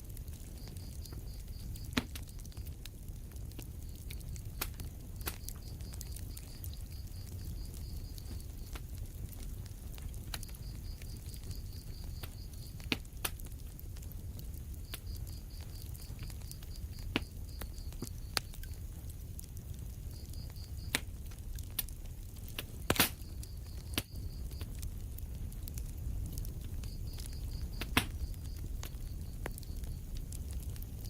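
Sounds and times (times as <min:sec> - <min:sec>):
fire crackling: 0:00.0 - 0:31.0
sharp pops of fire: 0:00.0 - 0:31.0.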